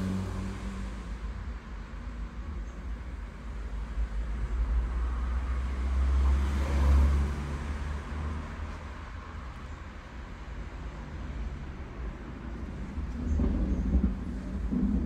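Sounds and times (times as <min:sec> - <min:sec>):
passing road vehicle rumble: 0:00.0 - 0:15.0.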